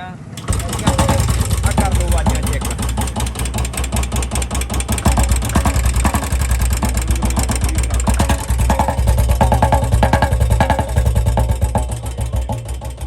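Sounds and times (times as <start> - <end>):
motorcycle engine ticking: 0.4 - 13.0.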